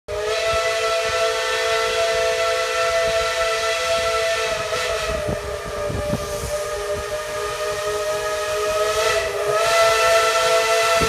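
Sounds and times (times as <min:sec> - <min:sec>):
steam whistle chord blast: 0:00.1 - 0:11.0.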